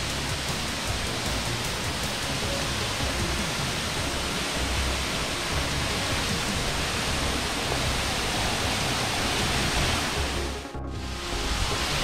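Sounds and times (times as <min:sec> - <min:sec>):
waterfall splashing onto stones: 0:00.0 - 0:10.6.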